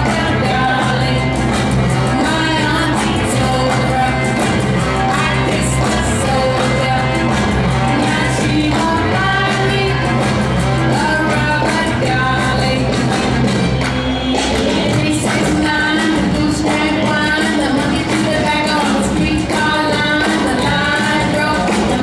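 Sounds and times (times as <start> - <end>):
upbeat jive music with singer: 0.0 - 22.0.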